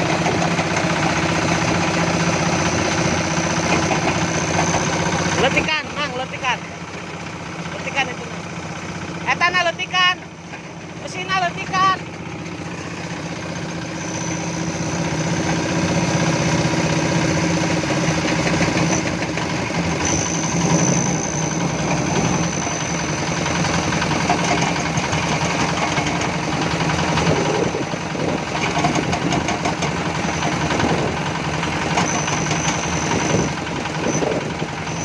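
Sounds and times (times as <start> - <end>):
construction machine engine idling: 0.0 - 35.0.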